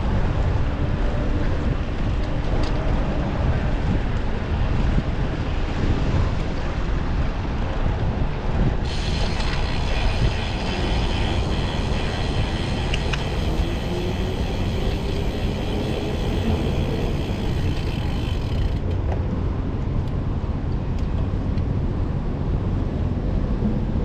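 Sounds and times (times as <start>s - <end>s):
low road rumble: 0.0s - 24.0s
wind rushing over microphone: 0.0s - 24.0s.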